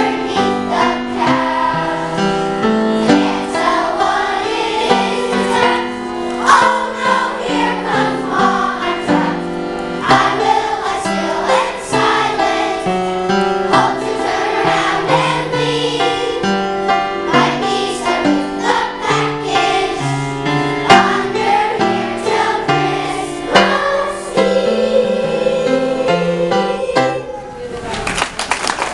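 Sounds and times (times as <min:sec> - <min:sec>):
children's choir singing: 0:00.0 - 0:27.8.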